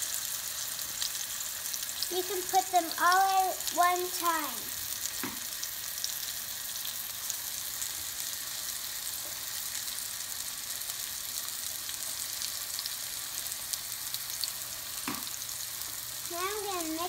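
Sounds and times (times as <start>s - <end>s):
onions sizzling in a pan: 0.0s - 17.0s.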